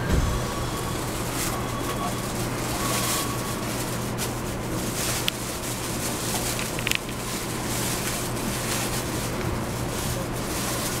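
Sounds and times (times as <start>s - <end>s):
steady low hum: 0.0s - 10.6s
train cabin rushing noise: 0.0s - 11.0s.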